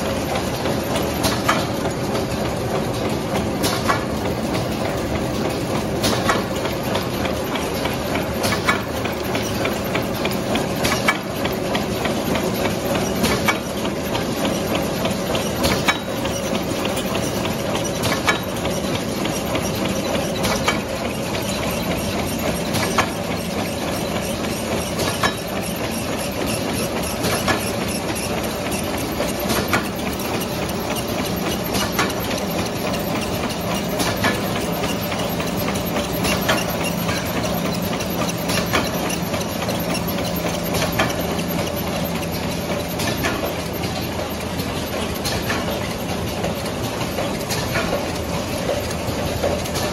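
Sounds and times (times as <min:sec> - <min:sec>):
machine whirring and humming: 0:00.0 - 0:49.9
sharp machine clacks: 0:00.0 - 0:49.9.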